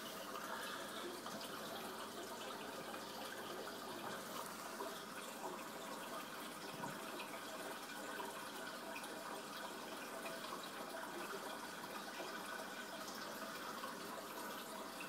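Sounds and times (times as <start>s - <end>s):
aquarium filter water splashing: 0.0s - 15.0s.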